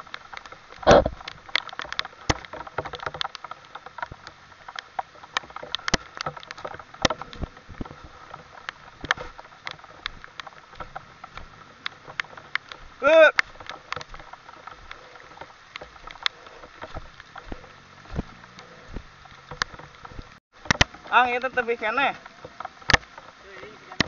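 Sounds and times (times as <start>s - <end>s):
raindrops tapping: 0.0s - 24.0s.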